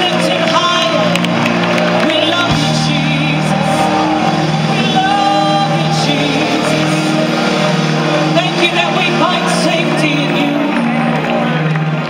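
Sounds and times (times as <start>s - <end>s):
voices singing with vibrato: 0.0s - 11.9s
sustained keyboard chord: 0.0s - 12.0s.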